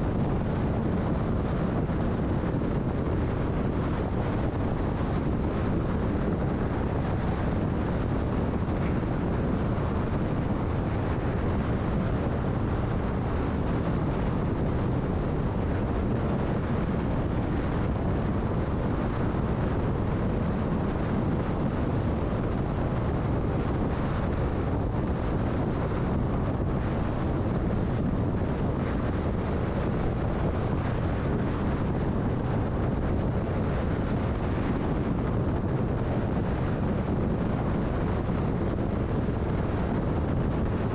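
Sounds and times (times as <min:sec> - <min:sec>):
car road and wind noise: 0:00.0 - 0:40.9.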